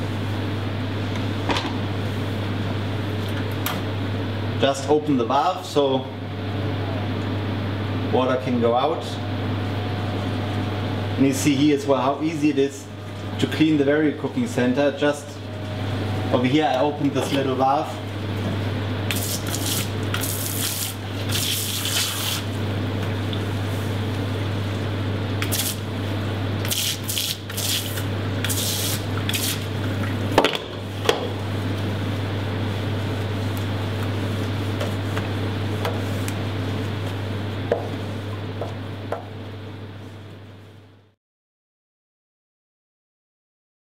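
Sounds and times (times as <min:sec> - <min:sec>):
steady low hum: 0:00.0 - 0:41.2.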